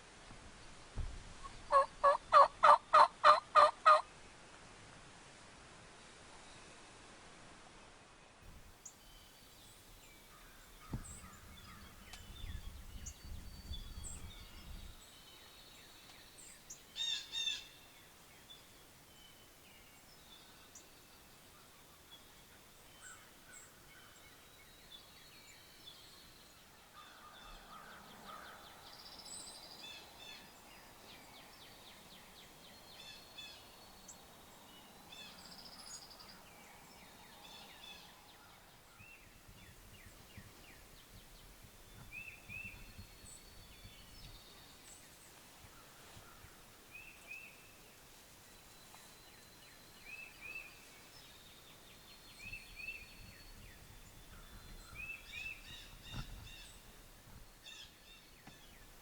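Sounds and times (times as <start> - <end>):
faint low wind: 0.0 - 59.0
songbirds chirping and trilling: 8.7 - 59.0.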